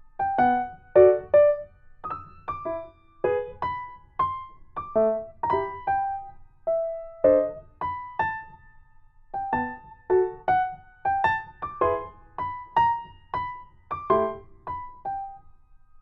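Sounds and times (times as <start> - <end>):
gentle electric piano melody: 0.0 - 15.5.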